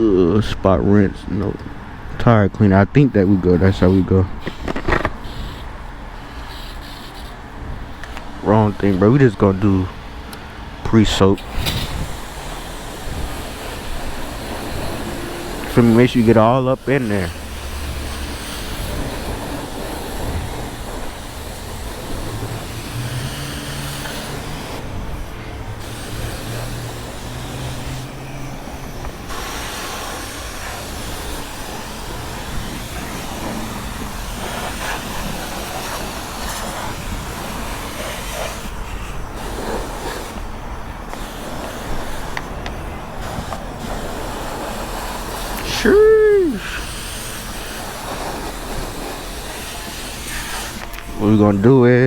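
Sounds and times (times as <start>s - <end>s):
high-pressure wand spraying: 3.2s - 52.0s.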